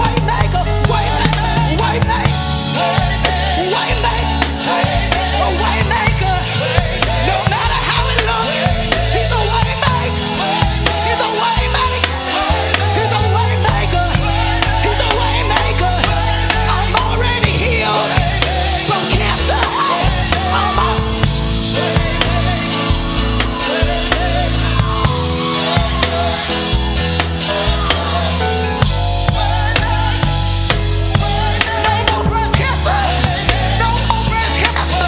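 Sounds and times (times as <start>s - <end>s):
bass guitar: 0.0s - 35.0s
drum kit: 0.0s - 35.0s
worship band playing: 0.0s - 35.0s.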